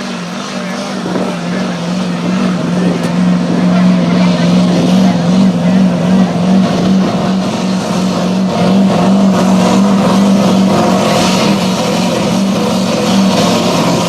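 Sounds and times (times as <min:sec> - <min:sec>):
truck engine at high revs: 0:00.0 - 0:14.0.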